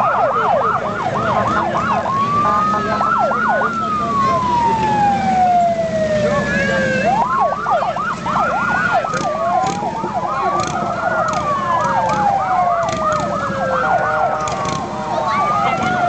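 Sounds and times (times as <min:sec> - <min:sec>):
motorcycle engines rumbling: 0:00.0 - 0:16.0
police siren wailing: 0:00.0 - 0:16.0
police siren yelping: 0:00.0 - 0:16.0.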